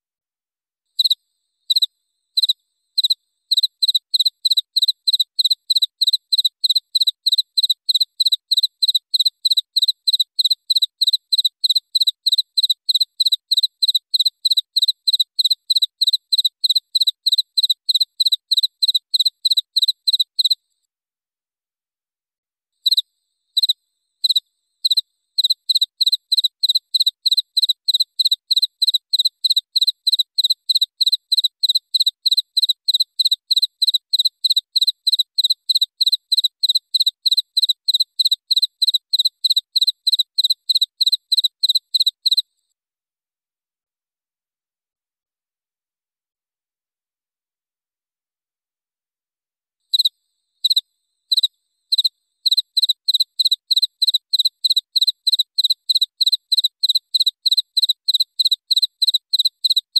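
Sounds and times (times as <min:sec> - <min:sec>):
cricket chirping: 0:01.0 - 0:20.6, 0:22.8 - 0:42.4, 0:49.9 - 0:59.9.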